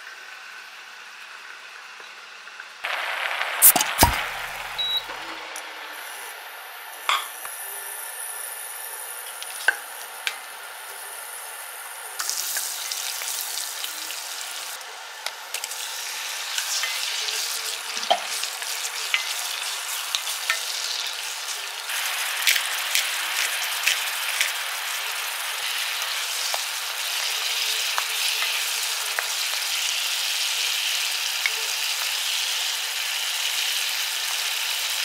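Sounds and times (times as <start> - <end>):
butter sizzling in a saucepan: 0.1 - 35.0.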